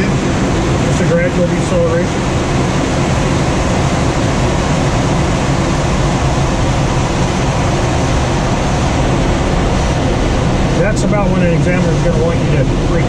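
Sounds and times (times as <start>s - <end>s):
airflow rushing around cockpit: 0.0s - 13.0s.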